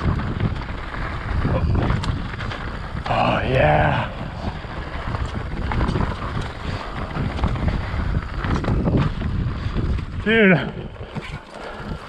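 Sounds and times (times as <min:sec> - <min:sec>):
bike knocking and rattling: 0:00.0 - 0:12.0
bike tyres rolling over dirt: 0:00.0 - 0:12.0
wind rush on microphone: 0:00.0 - 0:12.0.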